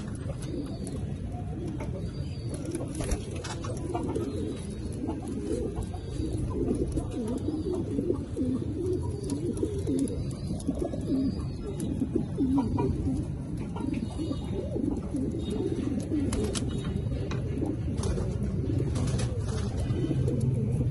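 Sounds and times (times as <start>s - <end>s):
pigeons cooing: 0.0s - 20.9s.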